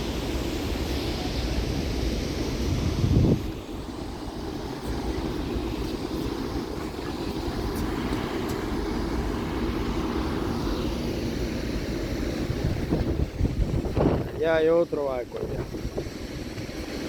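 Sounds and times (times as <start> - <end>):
wind and sea rushing: 0.0 - 17.0.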